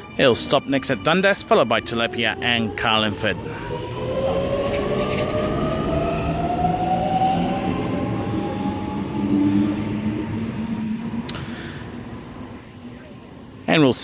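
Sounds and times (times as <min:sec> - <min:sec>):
train traction motors whining: 0:00.0 - 0:13.7
rumble of train carriages: 0:00.0 - 0:14.0.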